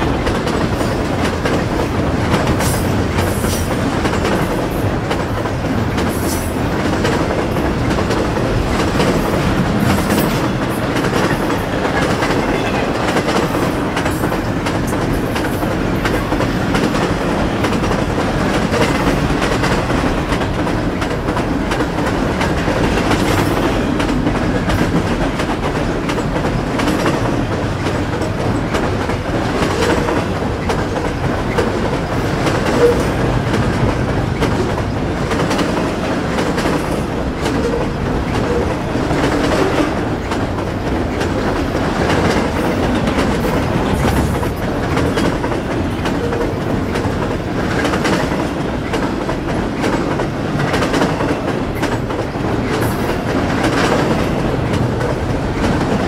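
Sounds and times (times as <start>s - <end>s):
freight train wheels clacking: 0.0s - 56.0s
train rumble: 0.0s - 56.0s.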